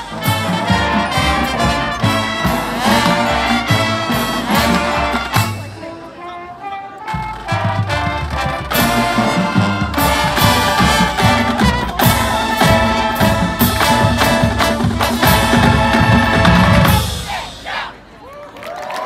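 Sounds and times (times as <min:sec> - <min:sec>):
marching band playing: 0:00.0 - 0:18.2.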